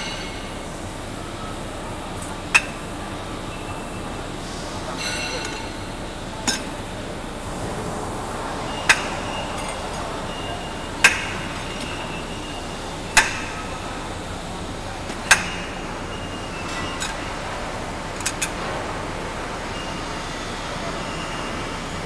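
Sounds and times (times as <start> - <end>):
workshop hum: 0.0 - 22.0.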